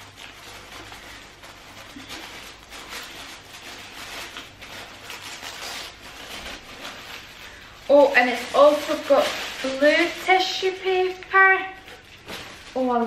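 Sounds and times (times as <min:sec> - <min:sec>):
tissue paper rustling and crinkling: 0:00.0 - 0:13.0.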